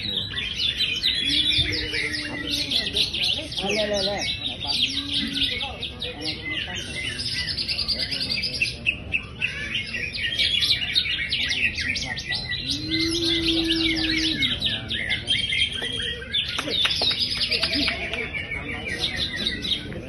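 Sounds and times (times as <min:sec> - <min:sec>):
bird singing chirps and trills: 0:00.0 - 0:20.0.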